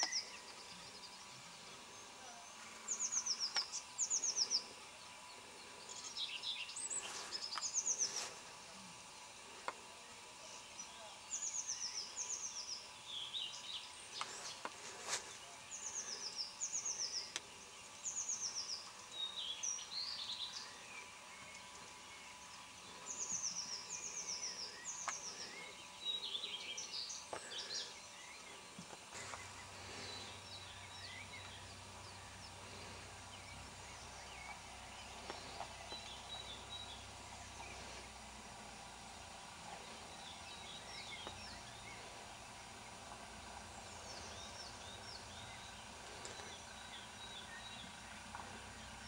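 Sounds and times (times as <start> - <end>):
birds chirping: 0.0 - 49.0
faint low steady hum: 0.0 - 49.0
songbirds singing: 0.0 - 49.0.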